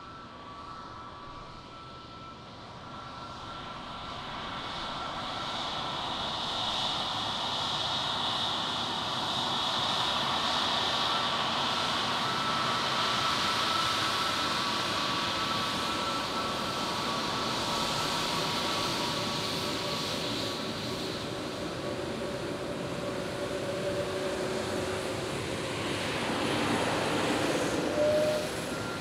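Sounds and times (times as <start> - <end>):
jet engines whining and rushing: 0.0 - 29.0.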